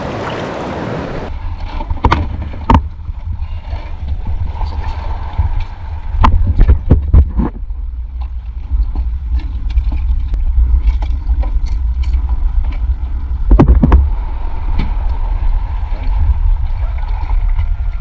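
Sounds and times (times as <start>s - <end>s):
water splashing and sloshing: 0.0s - 18.0s
steady low rumble: 1.3s - 18.0s.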